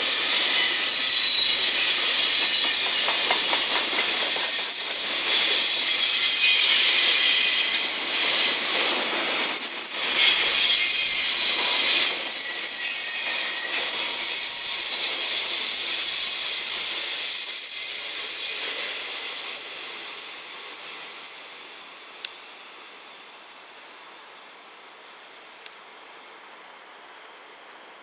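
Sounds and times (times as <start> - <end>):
train wheels rushing on track: 0.0 - 23.0.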